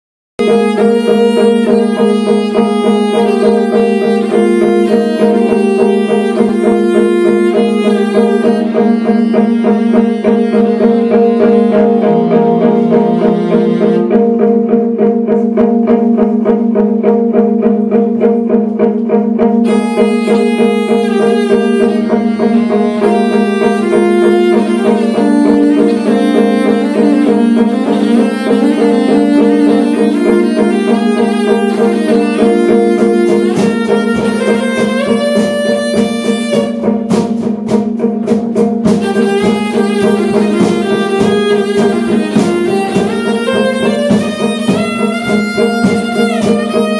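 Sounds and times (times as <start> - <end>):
bowed cello low note: 0.4 - 46.9
plucked electric guitar notes: 0.4 - 46.9.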